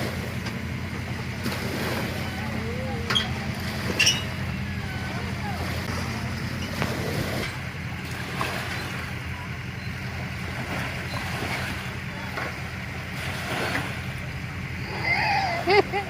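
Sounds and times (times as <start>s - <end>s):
boat engine rumbling: 0.0s - 16.0s
water noise: 0.0s - 16.0s.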